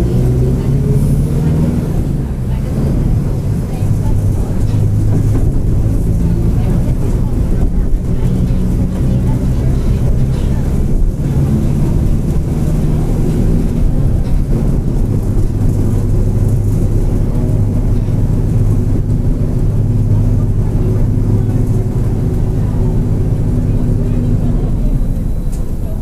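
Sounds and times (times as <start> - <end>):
bus engine droning: 0.0 - 26.0.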